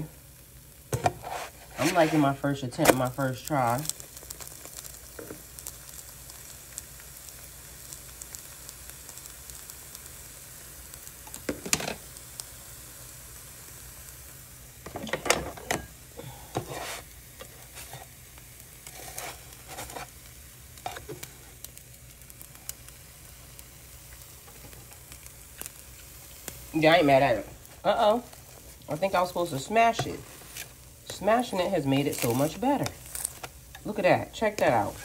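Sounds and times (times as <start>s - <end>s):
batter sizzling in frying pan: 0.0s - 35.0s.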